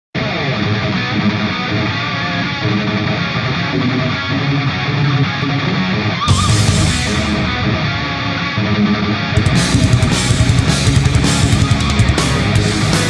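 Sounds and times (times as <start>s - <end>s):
electric guitar background music: 0.2s - 13.0s.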